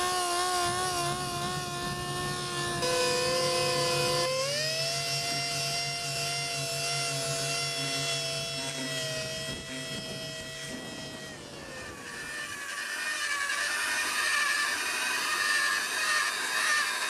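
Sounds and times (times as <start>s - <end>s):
machine polisher whining: 0.0s - 17.0s.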